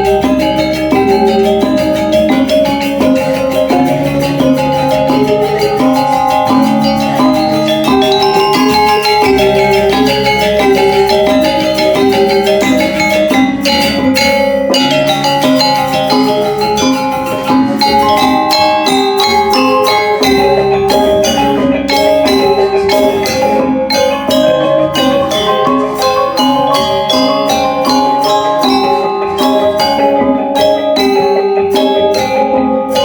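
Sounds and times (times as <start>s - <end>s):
gamelan metallophones ringing: 0.0s - 33.0s.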